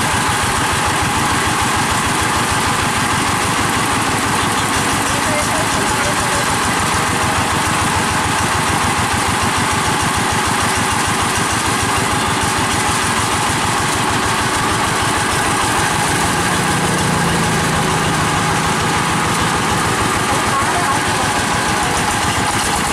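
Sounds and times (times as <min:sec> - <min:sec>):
diesel engine chugging at idle: 0:00.0 - 0:22.9.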